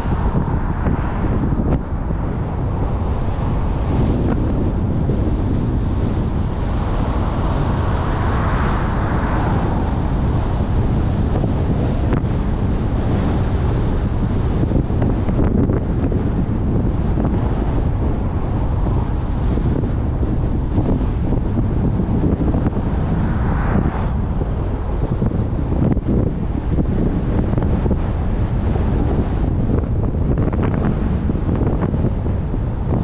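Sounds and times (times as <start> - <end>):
tyre and road noise: 0.0 - 33.0
wind on microphone: 0.0 - 33.0.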